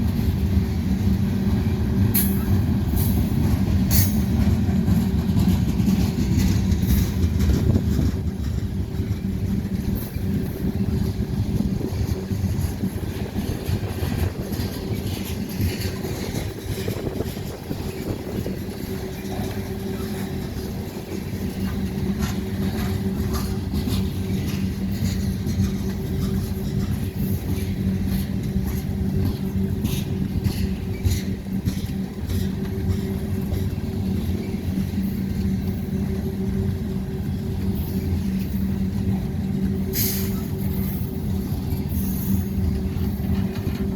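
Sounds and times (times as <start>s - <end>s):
heavy vehicle engine rumble: 0.0s - 43.9s.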